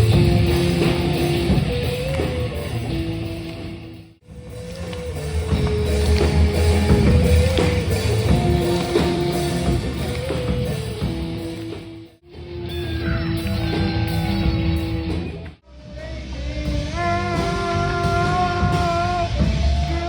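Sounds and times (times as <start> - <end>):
rock band music: 0.0 - 20.0.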